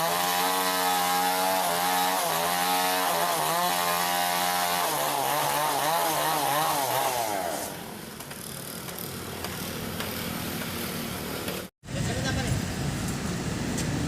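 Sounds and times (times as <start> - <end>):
chainsaw cutting wood: 0.0 - 11.7.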